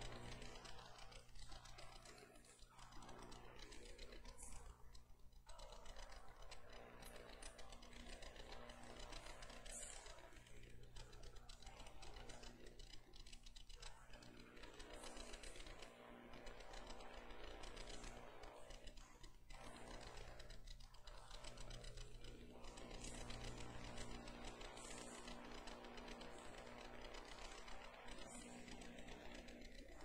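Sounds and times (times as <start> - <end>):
faint clicks: 0.0 - 30.0
steady low hum: 0.0 - 30.0.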